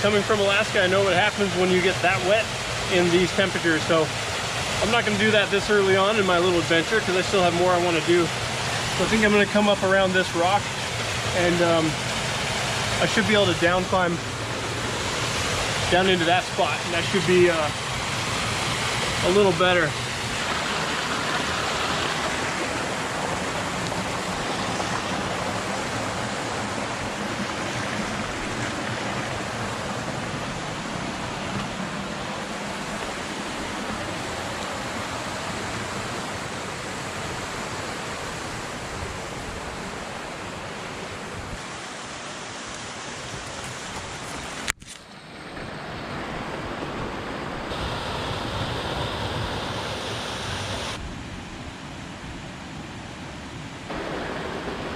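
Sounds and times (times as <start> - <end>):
water rushing over rocks: 0.0 - 51.0, 53.9 - 54.9.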